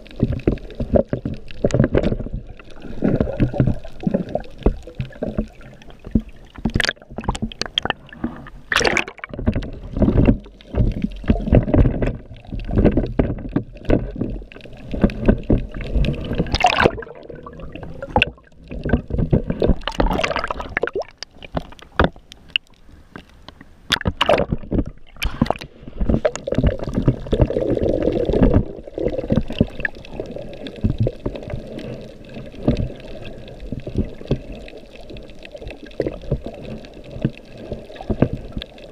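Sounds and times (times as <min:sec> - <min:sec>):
muffled underwater water sloshing: 0:00.0 - 0:38.9
sharp clicks and crackles: 0:00.0 - 0:38.9.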